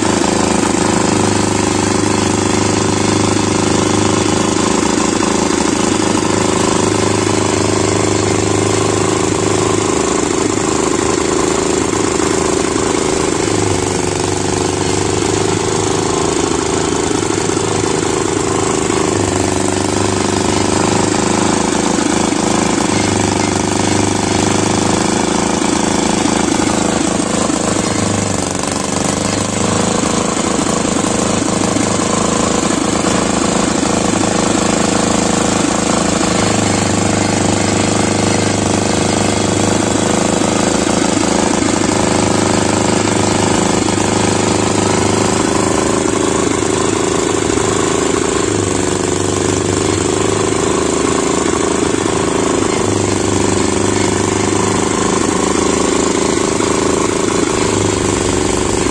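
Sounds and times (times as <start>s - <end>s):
small engine knocking: 0.0s - 58.9s.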